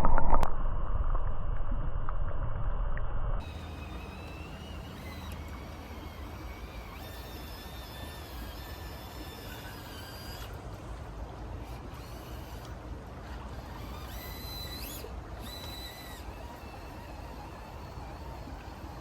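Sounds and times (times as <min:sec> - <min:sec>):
small electric motor whining: 0:03.4 - 0:19.0.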